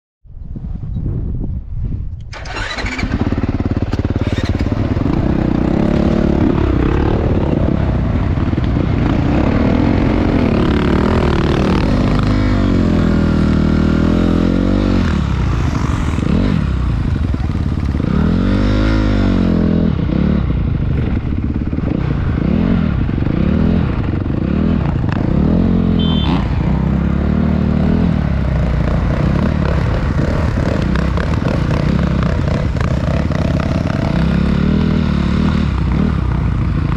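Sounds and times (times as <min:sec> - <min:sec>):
motorcycle engine revving: 0:02.3 - 0:36.9.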